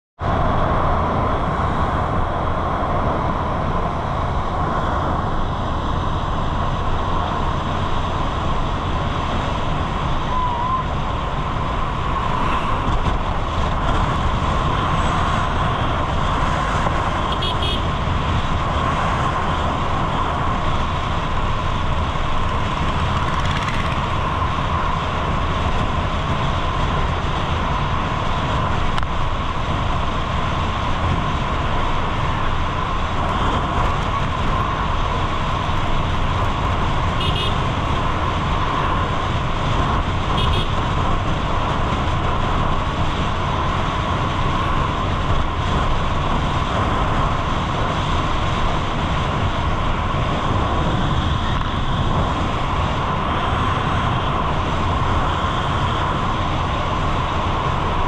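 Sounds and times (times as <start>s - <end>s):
vehicle road rumble: 0.2s - 58.0s.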